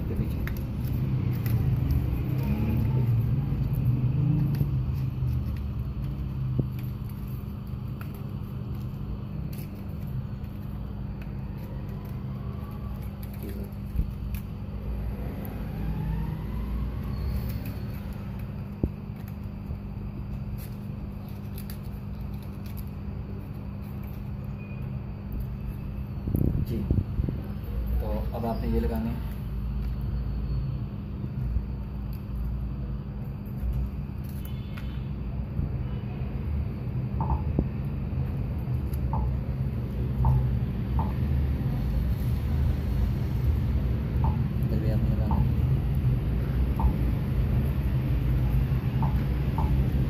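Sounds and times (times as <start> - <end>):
low rumble with constant hum: 0.0 - 50.0.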